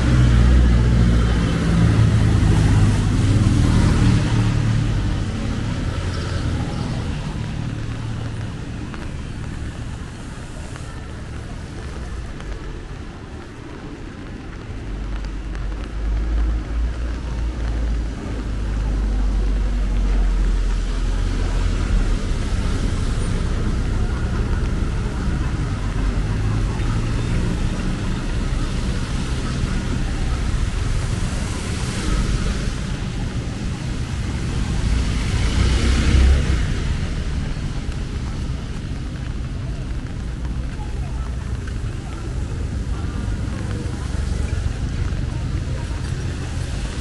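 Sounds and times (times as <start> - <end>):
vehicles passing close by: 0.0 - 47.0.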